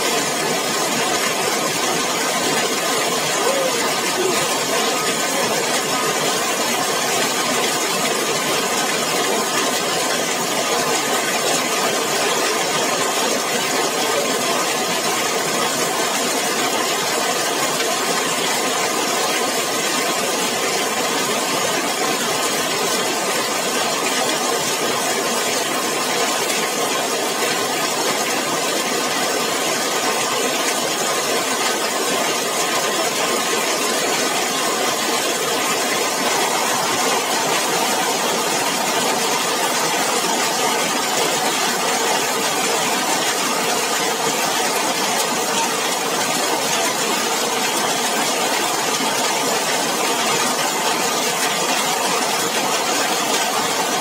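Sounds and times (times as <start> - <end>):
heavy rain on a metal roof: 0.0 - 54.0.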